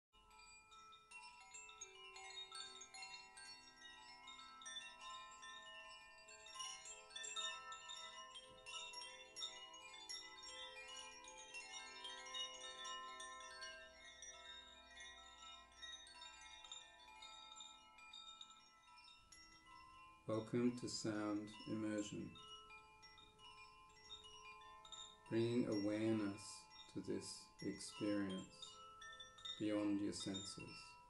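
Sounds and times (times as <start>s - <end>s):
chimes ringing: 0.2s - 31.0s.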